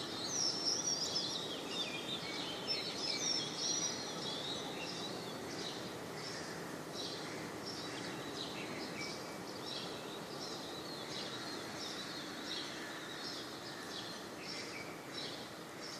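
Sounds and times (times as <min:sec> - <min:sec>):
steady outdoor background hiss: 0:00.0 - 0:15.9.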